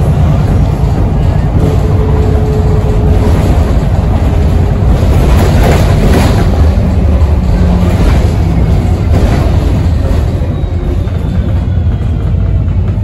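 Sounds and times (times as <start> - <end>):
bus engine drone: 0.0 - 13.0
road and cabin noise: 0.0 - 13.0.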